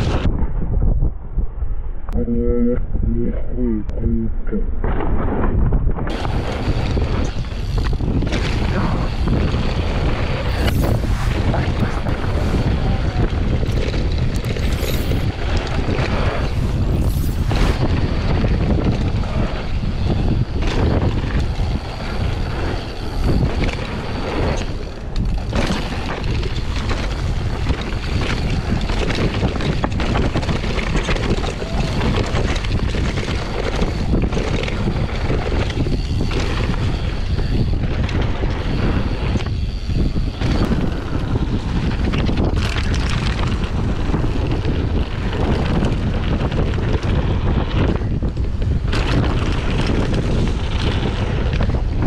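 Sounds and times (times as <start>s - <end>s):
wind buffeting microphone: 0.0s - 52.0s
bike rattling over bumps: 4.8s - 52.0s.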